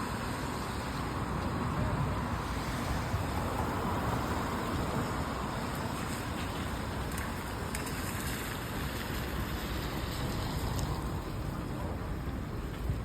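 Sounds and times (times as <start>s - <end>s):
low traffic rumble: 0.0s - 13.0s
rain hiss on wet surfaces: 0.0s - 13.0s.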